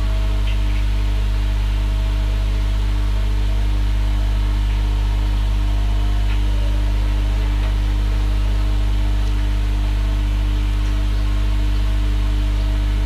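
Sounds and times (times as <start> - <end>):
electrical hum with buzz: 0.0 - 13.0.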